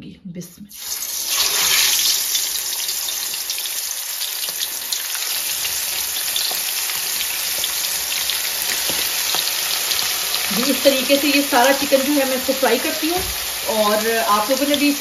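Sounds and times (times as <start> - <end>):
chicken sizzling in hot oil: 0.7 - 15.0.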